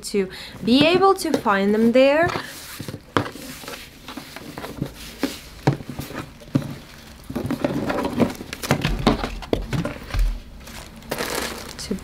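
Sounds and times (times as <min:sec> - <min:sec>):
cardboard rustling: 0:00.6 - 0:12.0.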